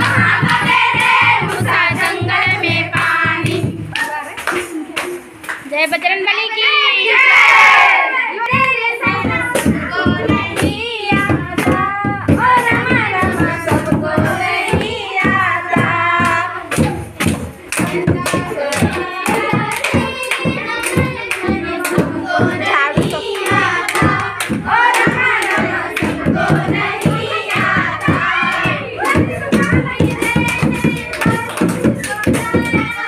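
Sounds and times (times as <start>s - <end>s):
barrel drum beating: 0.0s - 4.3s, 8.5s - 33.0s
girls singing together: 0.0s - 5.2s, 6.5s - 33.0s
hand clapping: 0.0s - 5.7s, 8.4s - 33.0s.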